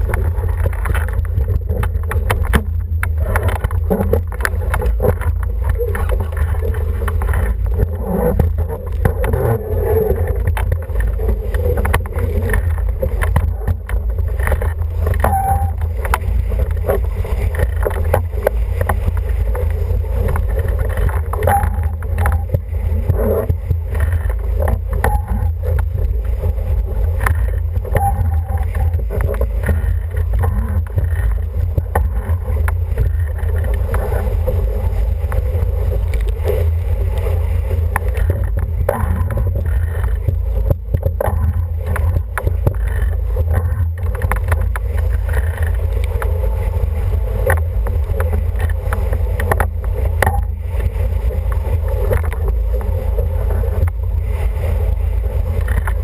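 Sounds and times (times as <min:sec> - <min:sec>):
knocks and splashes against hull: 0:00.0 - 0:56.0
rushing water: 0:00.0 - 0:56.0
wind rumbling on microphone: 0:00.0 - 0:56.0.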